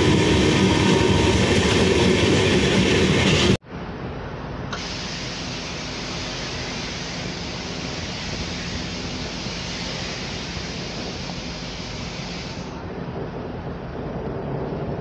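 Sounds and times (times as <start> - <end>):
train rushing noise: 0.0 - 15.0.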